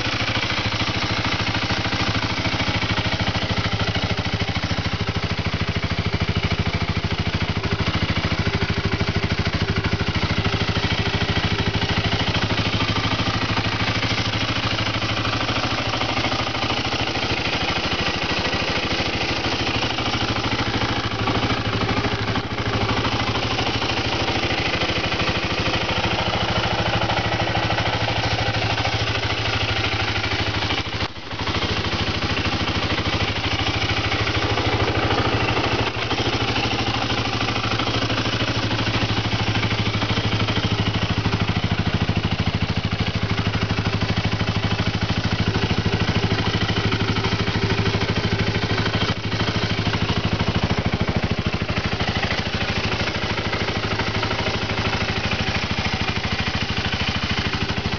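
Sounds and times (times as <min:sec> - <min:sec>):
motorcycle engine idling: 0:00.0 - 0:57.9.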